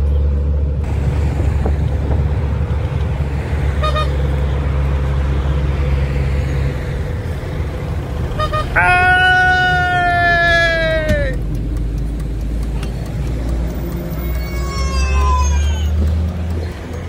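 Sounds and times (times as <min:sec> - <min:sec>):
vehicle engine and road drone: 0:00.0 - 0:17.0.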